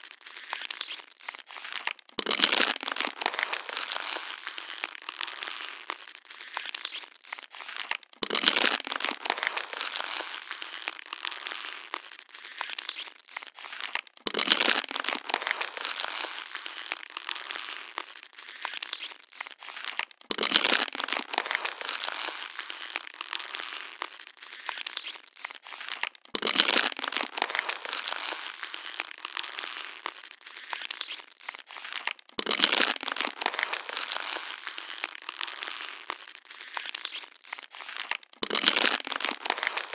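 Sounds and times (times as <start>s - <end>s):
plastic bottle crushed and crinkled: 0.0s - 39.9s.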